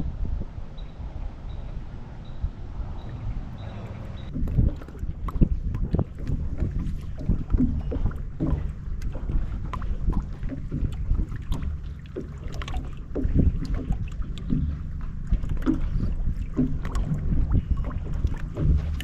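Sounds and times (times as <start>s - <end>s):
wind buffeting microphone: 0.0s - 19.0s
knocks and ticks from boat: 2.9s - 19.0s.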